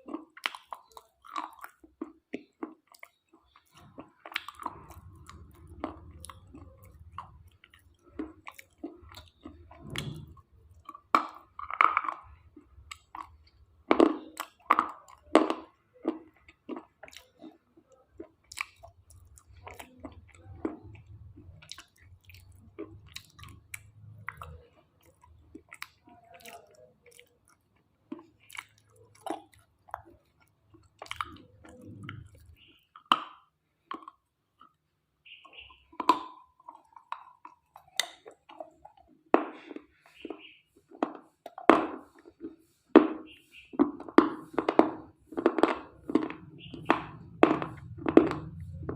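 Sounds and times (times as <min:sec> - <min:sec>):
chewing crunchy pieces: 0:00.0 - 0:48.9.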